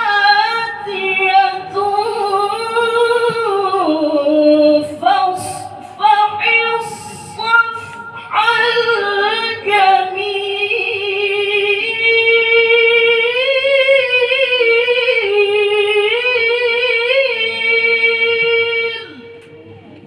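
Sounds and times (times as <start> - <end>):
melodic recitation by high voice: 0.0 - 19.4.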